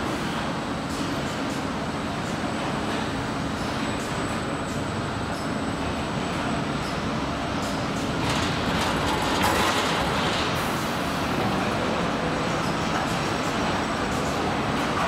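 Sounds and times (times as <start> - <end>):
assembly line machinery noise: 0.0 - 15.0.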